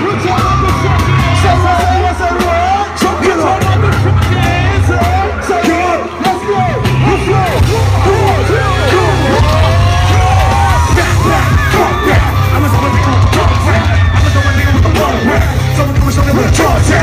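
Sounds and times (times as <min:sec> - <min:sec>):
crowd yelling and singing along: 0:00.0 - 0:17.0
live hip-hop music: 0:00.0 - 0:17.0.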